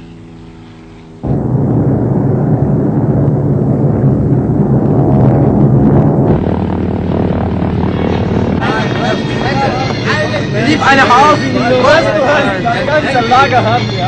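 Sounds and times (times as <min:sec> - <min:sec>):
propeller planes droning overhead: 0:00.0 - 0:14.0.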